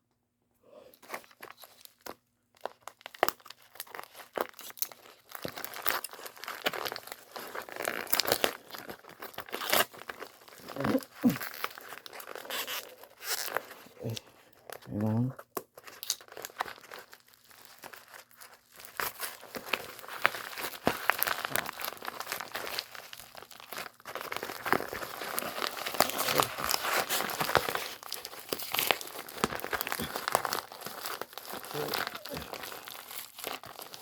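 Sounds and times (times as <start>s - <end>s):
packaging crinkling and rustling: 0.9s - 34.0s.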